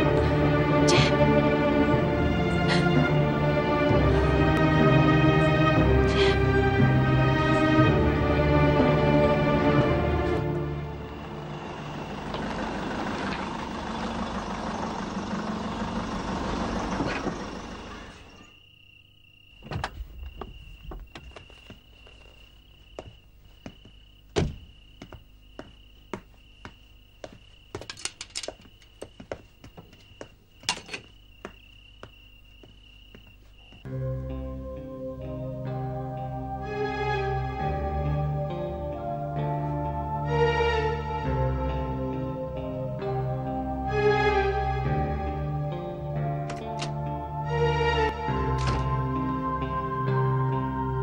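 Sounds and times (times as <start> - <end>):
crickets trilling: 0.0 - 51.0.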